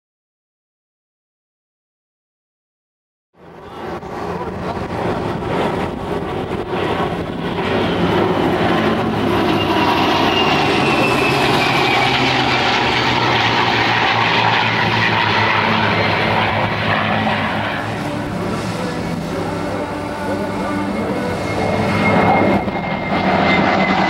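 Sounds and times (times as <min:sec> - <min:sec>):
aircraft engine drone: 0:03.4 - 0:24.0
jet whine: 0:03.4 - 0:24.0.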